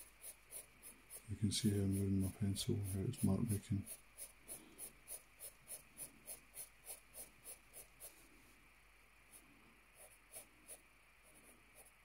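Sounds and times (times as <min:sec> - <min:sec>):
pencil scratching on paper: 0:00.0 - 0:08.3, 0:10.0 - 0:12.0.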